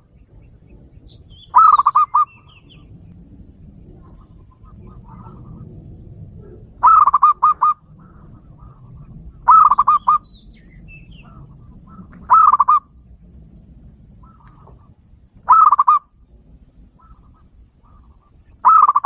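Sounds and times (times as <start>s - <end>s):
dove cooing: 0.0s - 3.0s, 3.6s - 13.2s, 14.0s - 19.0s.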